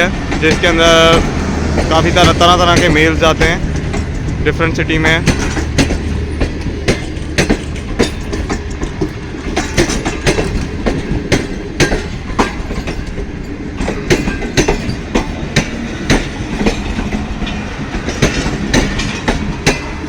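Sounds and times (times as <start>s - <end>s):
train wheels clattering over rails: 0.0s - 20.0s.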